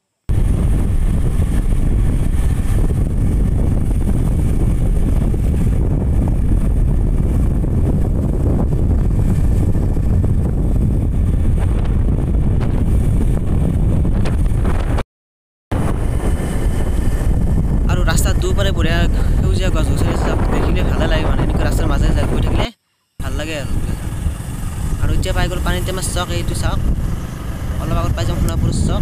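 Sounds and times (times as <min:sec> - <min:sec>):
wind roaring over microphone: 0:00.3 - 0:15.0, 0:15.7 - 0:29.0.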